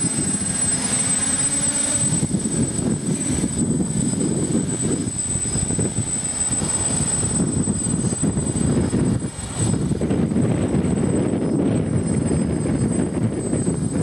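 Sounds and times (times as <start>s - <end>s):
drone motors humming and whining: 0.0s - 14.0s
wind buffeting microphone: 0.0s - 14.0s.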